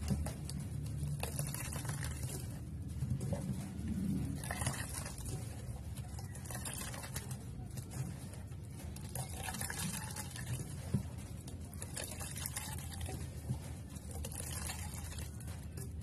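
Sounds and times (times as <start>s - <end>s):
water trickling: 0.0s - 8.0s, 8.8s - 16.0s.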